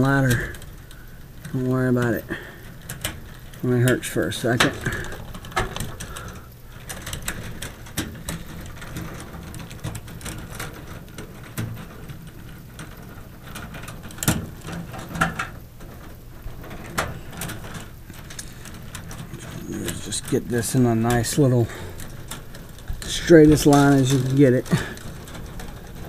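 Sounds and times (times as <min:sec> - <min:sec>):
wires rustling and clicking: 0:00.0 - 0:26.0.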